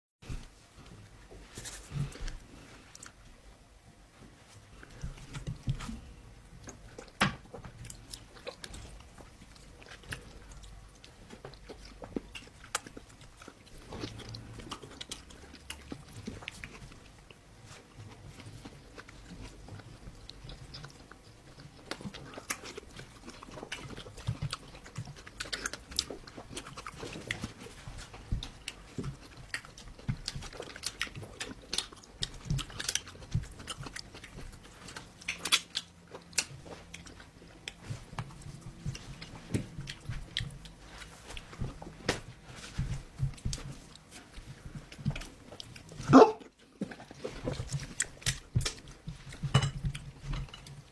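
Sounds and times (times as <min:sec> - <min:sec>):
person chewing with wet smacks: 0:04.5 - 0:50.9.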